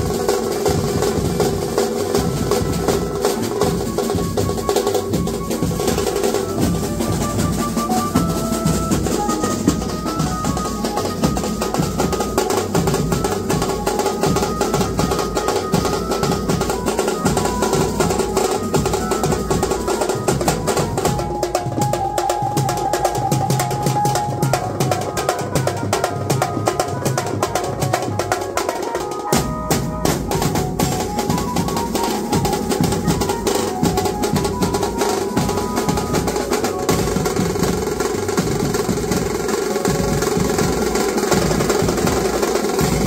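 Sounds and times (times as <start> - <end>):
fast drumming with cymbals: 0.0 - 43.0
melody of held notes: 0.1 - 43.0.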